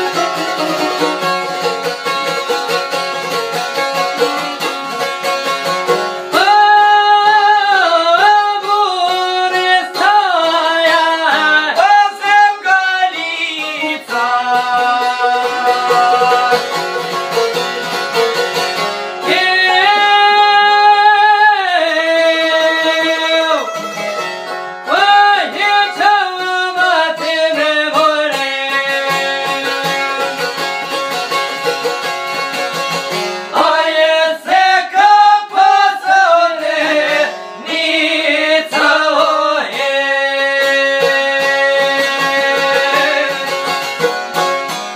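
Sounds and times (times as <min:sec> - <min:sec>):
man singing folk song: 0:00.0 - 0:44.8
plucked lutes strumming drone: 0:00.0 - 0:44.9.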